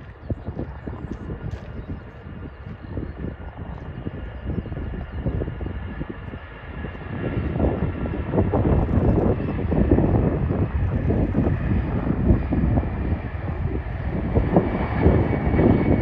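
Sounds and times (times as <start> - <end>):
jet airliner engines rumbling: 0.0 - 16.0.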